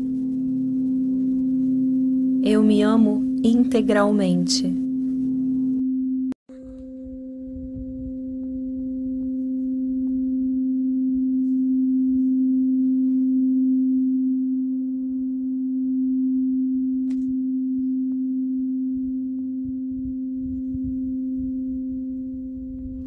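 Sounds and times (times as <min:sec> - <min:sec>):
tuning fork ringing: 0:00.0 - 0:23.0.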